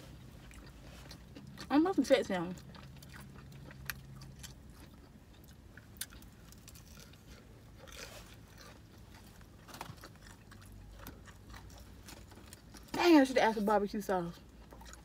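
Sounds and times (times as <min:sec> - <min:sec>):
faint chewing and crunching: 0:00.0 - 0:15.0.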